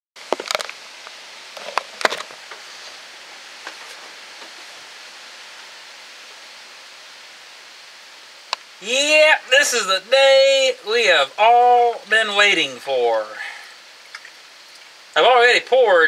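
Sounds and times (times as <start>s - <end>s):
steady background hiss: 0.2s - 16.0s.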